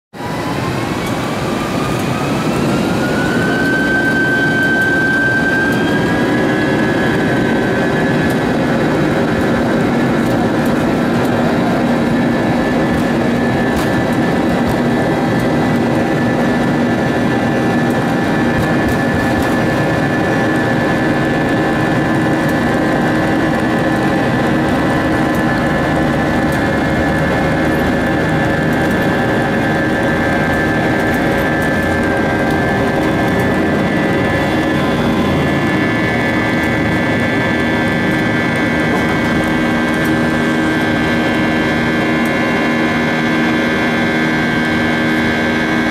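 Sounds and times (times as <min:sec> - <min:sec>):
jet engines whining: 0:00.2 - 0:45.9.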